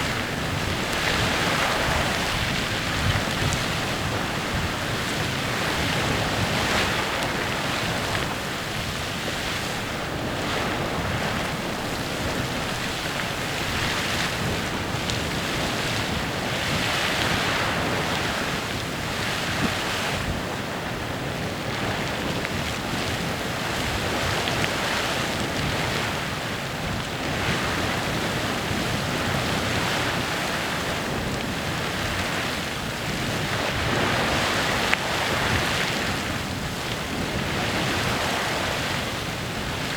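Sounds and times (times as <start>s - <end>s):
geyser erupting with hissing rush: 0.0s - 39.9s.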